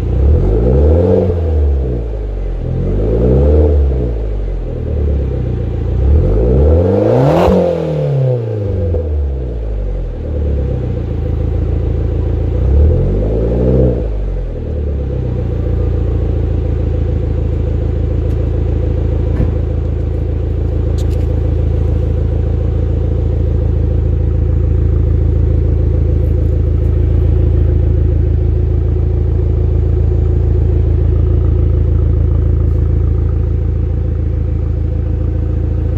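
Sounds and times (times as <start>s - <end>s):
car engine revving and idling: 0.0s - 35.9s.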